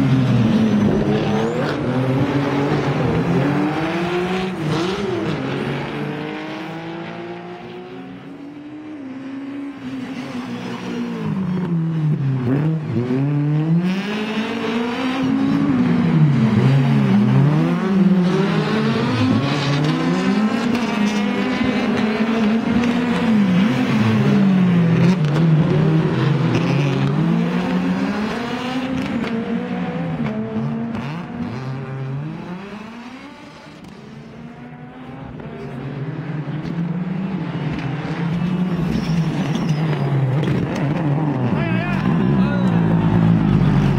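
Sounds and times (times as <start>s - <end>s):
rally car engine revving: 0.0s - 8.4s, 9.0s - 43.9s.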